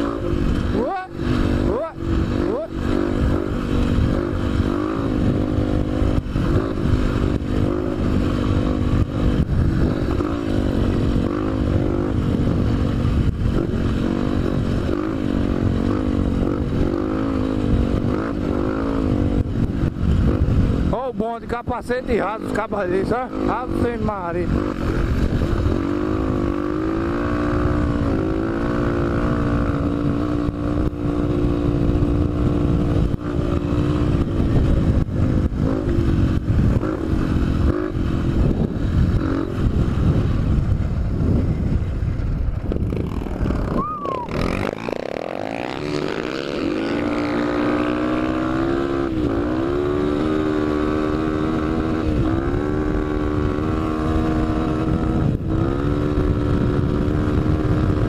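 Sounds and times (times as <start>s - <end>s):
motorcycle engine under throttle: 0.0s - 58.0s.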